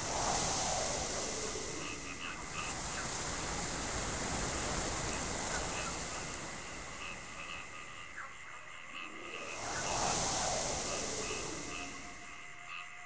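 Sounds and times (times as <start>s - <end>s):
steady rushing noise: 0.0s - 12.7s.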